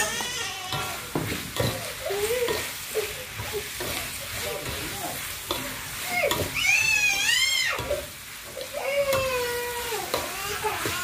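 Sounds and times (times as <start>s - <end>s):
food sizzling: 0.0s - 11.0s
spatula scraping a wok: 0.0s - 11.0s.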